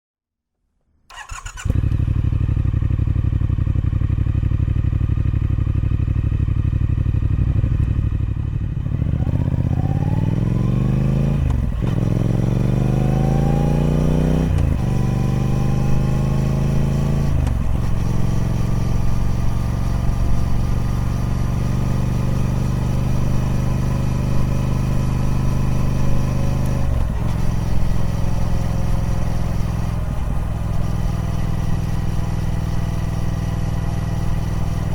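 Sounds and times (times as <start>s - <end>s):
motorcycle engine revving through gears: 1.1s - 34.9s.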